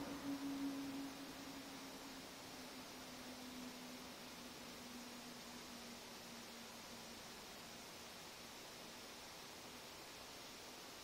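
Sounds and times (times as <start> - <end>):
faint steady hiss: 0.0 - 11.0
low steady hum: 0.0 - 11.0.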